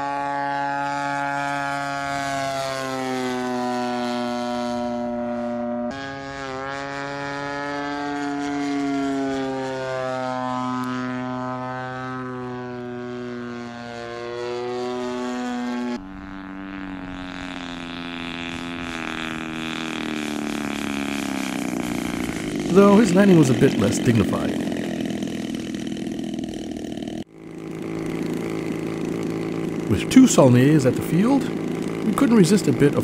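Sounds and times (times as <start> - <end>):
model plane engine and propeller: 0.0 - 33.0.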